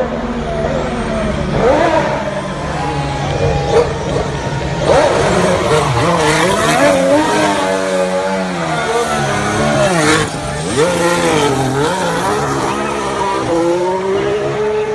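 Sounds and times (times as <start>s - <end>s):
wavering engine revving tones: 0.0s - 14.9s.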